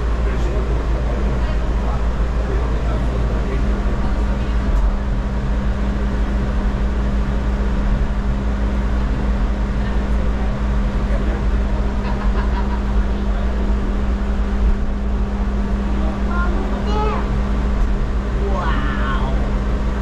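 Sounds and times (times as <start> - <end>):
funicular car rumbling on track: 0.0 - 20.0.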